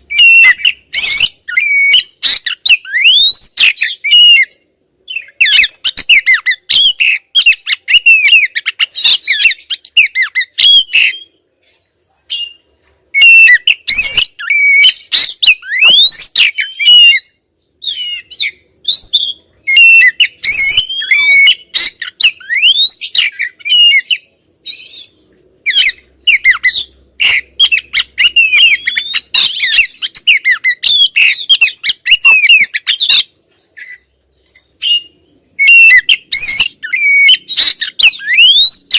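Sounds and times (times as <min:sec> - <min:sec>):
bird calling with whistled notes: 0:00.0 - 0:11.4, 0:12.2 - 0:38.9.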